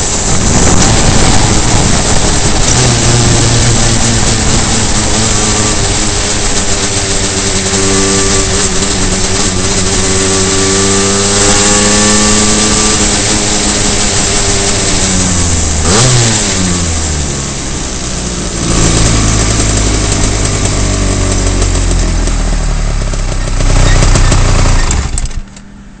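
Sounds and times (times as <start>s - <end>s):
kart engine running hard: 0.0s - 26.0s
wind and tyre noise: 0.0s - 26.0s.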